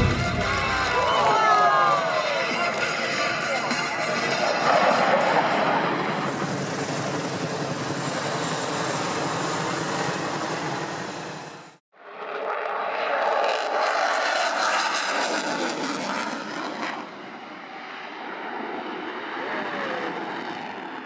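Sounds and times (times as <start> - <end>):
aircraft engines roaring: 0.0 - 21.0.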